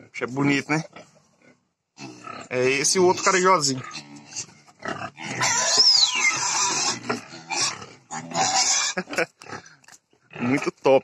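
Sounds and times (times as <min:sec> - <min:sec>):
pigs squealing and grunting: 0:00.6 - 0:10.8.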